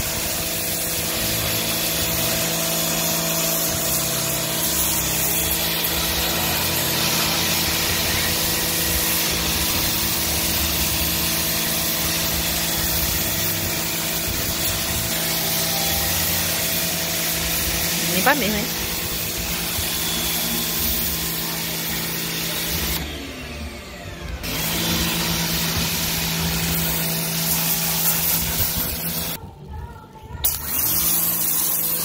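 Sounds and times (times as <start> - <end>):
water jet spraying on tiles: 0.0 - 23.0, 24.4 - 29.4, 30.4 - 32.0
pressure washer motor humming: 0.0 - 29.4, 30.4 - 32.0.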